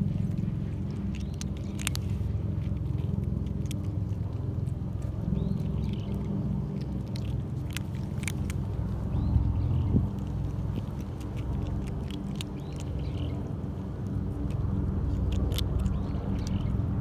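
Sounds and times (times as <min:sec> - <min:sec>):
cats crunching dry kibble: 0:00.0 - 0:17.0
low rumble: 0:00.0 - 0:17.0.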